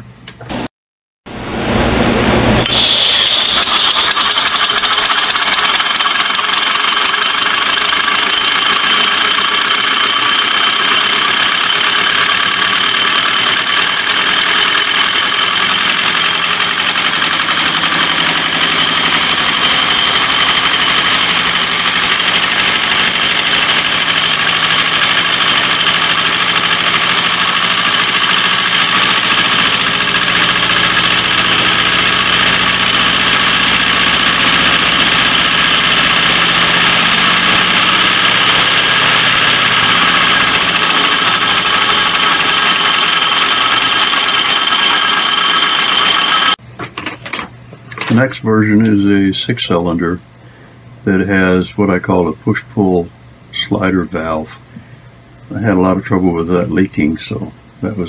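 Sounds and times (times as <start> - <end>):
compressed-air engine chattering: 2.6 - 58.0.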